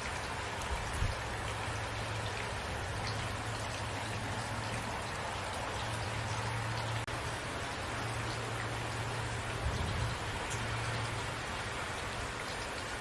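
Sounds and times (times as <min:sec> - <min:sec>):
rain pattering on surfaces: 0:00.0 - 0:13.0.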